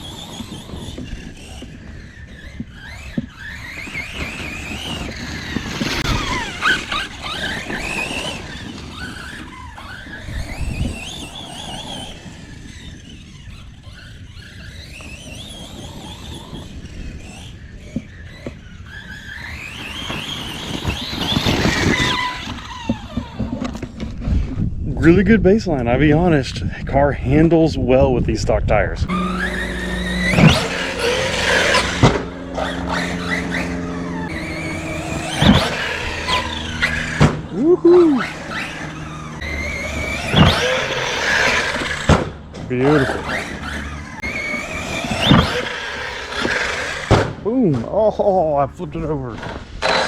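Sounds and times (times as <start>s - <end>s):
toy truck electric motor whining: 0.0s - 25.3s, 29.1s - 47.4s, 49.4s - 50.0s.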